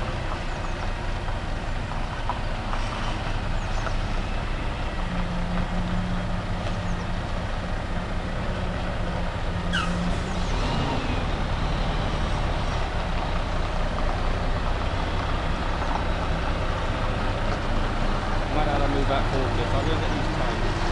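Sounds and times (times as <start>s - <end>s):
lorry diesel engine running: 0.0s - 20.9s
steady engine hum: 0.0s - 20.9s.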